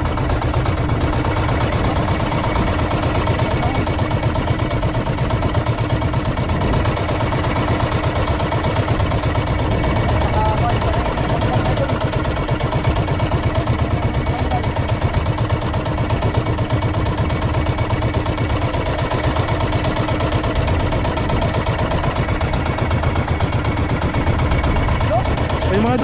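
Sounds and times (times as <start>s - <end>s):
boat engine chugging: 0.0s - 26.0s.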